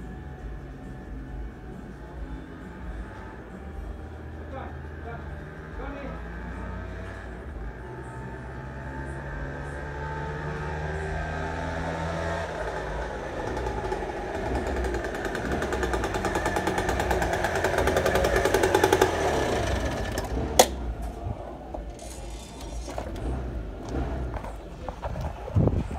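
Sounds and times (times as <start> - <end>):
two-stroke scooter engine: 0.0 - 25.9.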